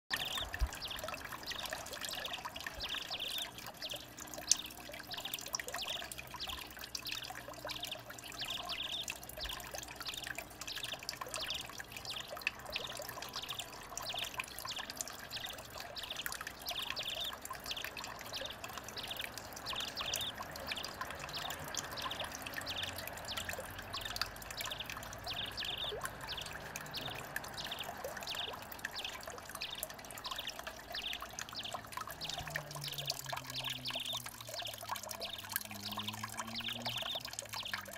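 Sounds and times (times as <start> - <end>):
birds splashing in water: 0.1 - 37.9
water trickling over stone steps: 0.1 - 37.9.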